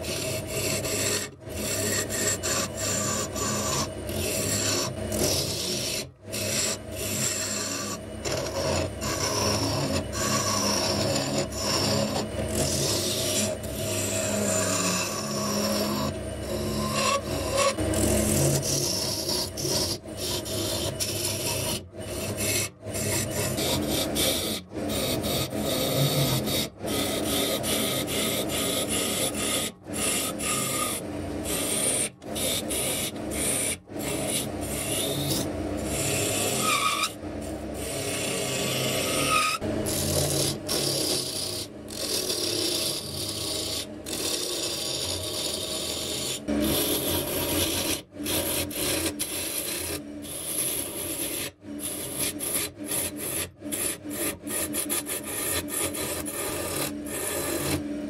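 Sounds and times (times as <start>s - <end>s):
lathe gouge scraping wood: 0.0s - 58.0s.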